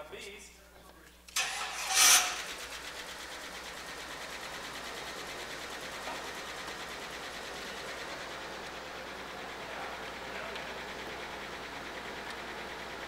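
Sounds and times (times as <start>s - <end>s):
car engine idling: 2.4s - 13.0s.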